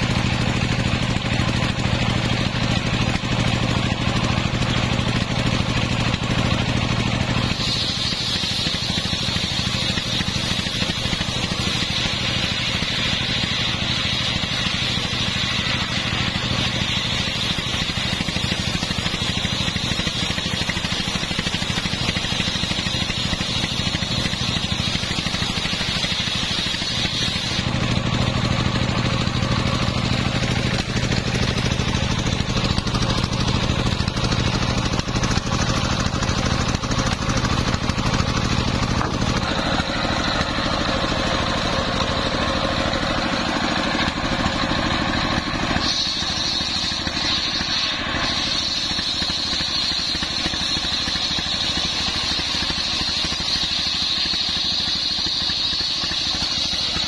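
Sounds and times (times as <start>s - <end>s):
circular saw blade ripping timber: 0.0s - 57.0s
high steady whine: 0.0s - 57.0s
sawmill engine droning: 0.0s - 57.0s.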